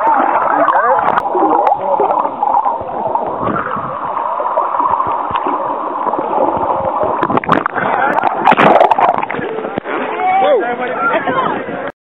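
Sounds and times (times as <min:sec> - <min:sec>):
muffled underwater gurgling: 0:00.0 - 0:10.2.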